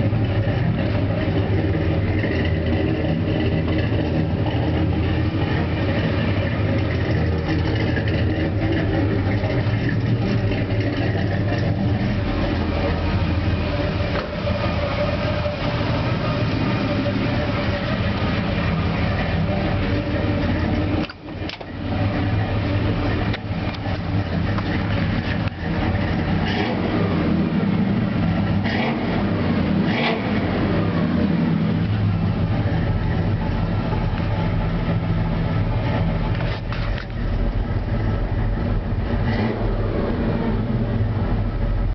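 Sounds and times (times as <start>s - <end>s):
loud engine rumbling: 0.0s - 41.9s.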